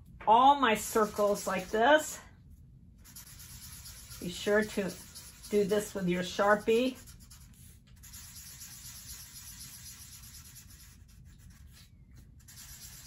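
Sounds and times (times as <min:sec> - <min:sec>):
low room hum: 0:00.0 - 0:13.0
marker scratching on paper: 0:00.9 - 0:01.8, 0:03.0 - 0:13.0.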